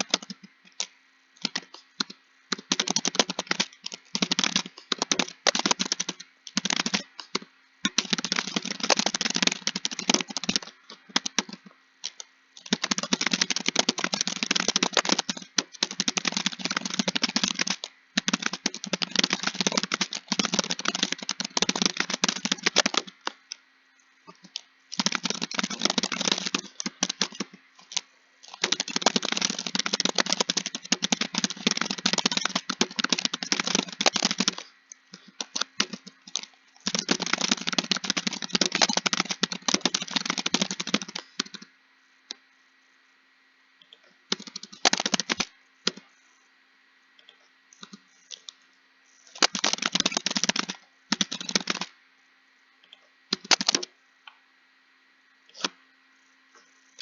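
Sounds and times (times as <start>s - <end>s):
keyboard typing: 0.0s - 23.6s, 24.3s - 41.7s, 43.9s - 46.0s, 49.2s - 52.0s, 53.3s - 53.9s.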